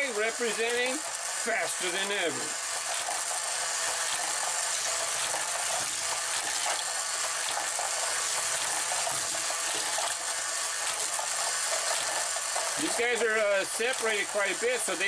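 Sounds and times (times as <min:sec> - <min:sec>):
toy cars clicking on track: 0:00.0 - 0:15.0
toy track whirring: 0:00.0 - 0:15.0.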